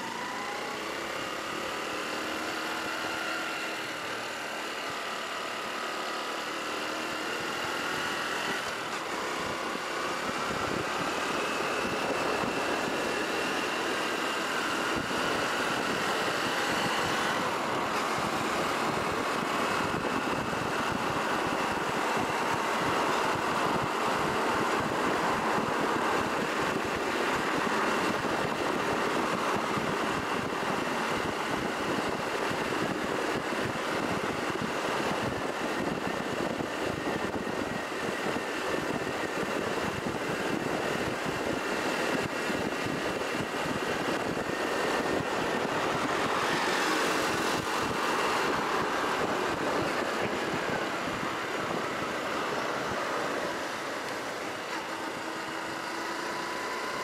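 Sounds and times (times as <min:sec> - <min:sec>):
wind and road noise: 0:00.0 - 0:57.0
motorcycle engine rising: 0:07.5 - 0:57.0.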